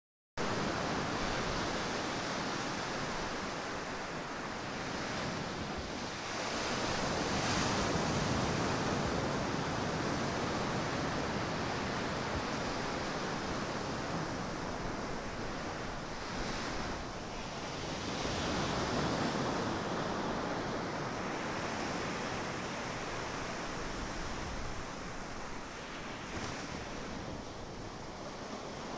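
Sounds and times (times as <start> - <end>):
ocean waves breaking on beach: 0.4 - 28.9.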